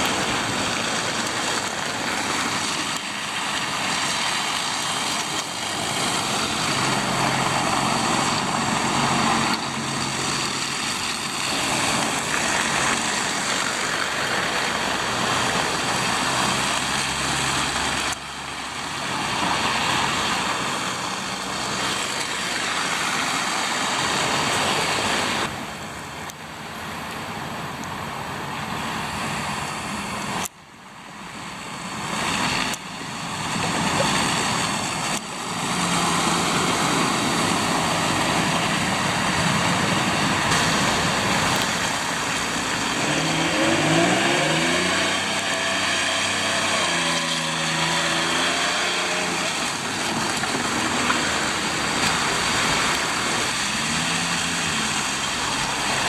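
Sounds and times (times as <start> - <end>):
truck engine accelerating: 0.0 - 25.6, 31.3 - 56.0
tyre hiss through wet snow: 0.0 - 56.0
vehicles driving past: 0.0 - 56.0.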